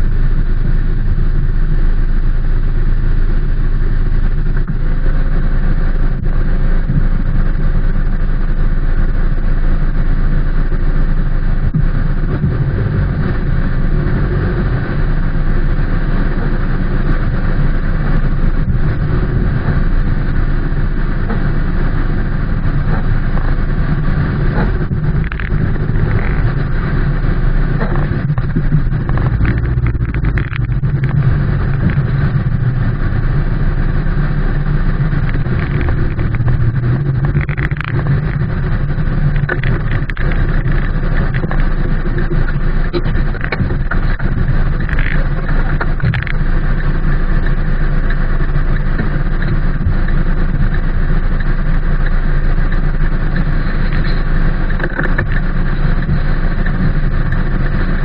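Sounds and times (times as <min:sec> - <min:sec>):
rain on a car roof: 0:00.0 - 0:58.0.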